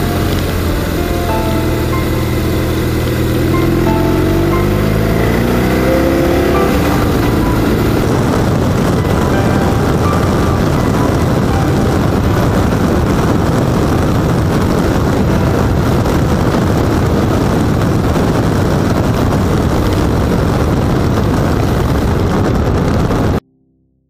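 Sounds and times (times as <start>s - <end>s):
motorcycle engine: 0.0s - 22.3s
wind and road noise: 0.0s - 23.4s.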